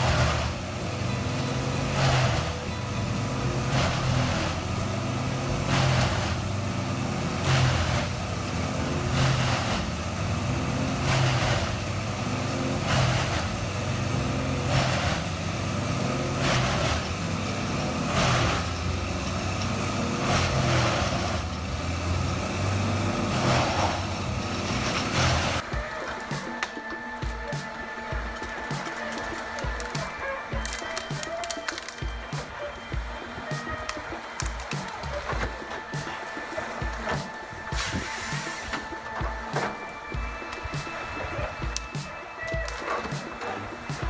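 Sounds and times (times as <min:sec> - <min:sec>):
machine engine running: 0:00.0 - 0:44.0
wood going through machine: 0:00.0 - 0:44.0.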